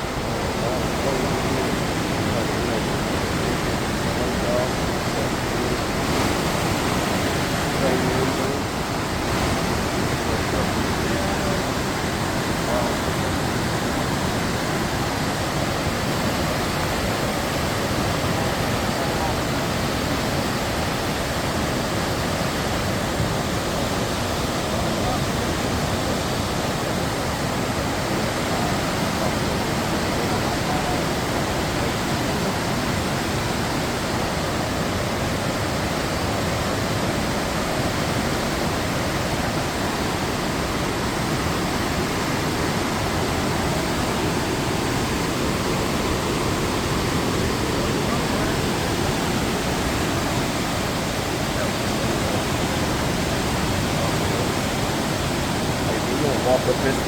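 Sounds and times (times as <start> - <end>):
rushing floodwater: 0.0 - 57.0.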